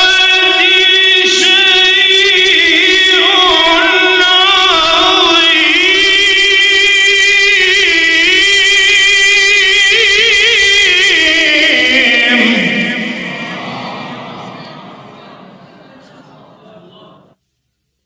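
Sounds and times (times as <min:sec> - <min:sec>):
person chanting a melodic recitation: 0:00.0 - 0:17.4.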